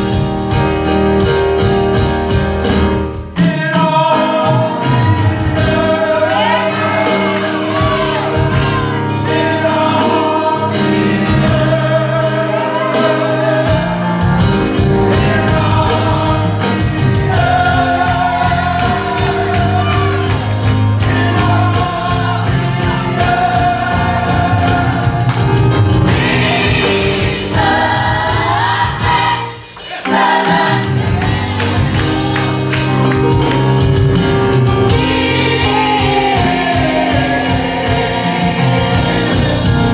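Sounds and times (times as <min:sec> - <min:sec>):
band with steady beat: 0:00.0 - 0:39.9
choir singing: 0:03.4 - 0:33.9, 0:34.6 - 0:39.9.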